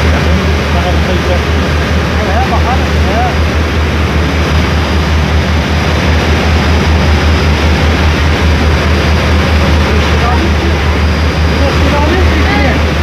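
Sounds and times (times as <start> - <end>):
ferry engine droning: 0.0 - 13.0
water rushing in propeller wake: 0.0 - 13.0.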